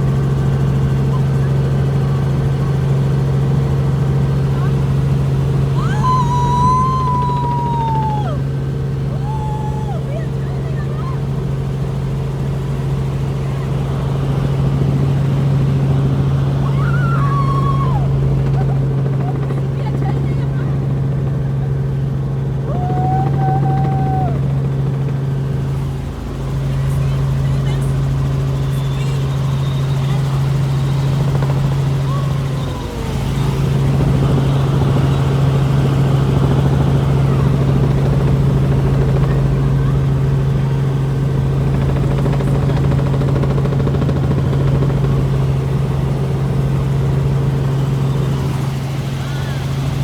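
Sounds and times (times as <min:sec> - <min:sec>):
helicopter rotor and engine drone: 0:00.0 - 0:50.0.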